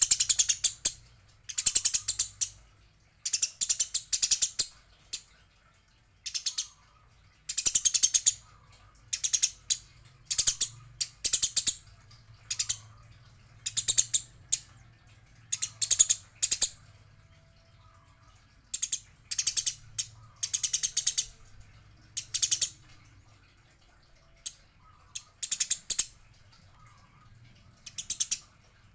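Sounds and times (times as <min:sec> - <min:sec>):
sparrows chattering: 0:00.0 - 0:28.9.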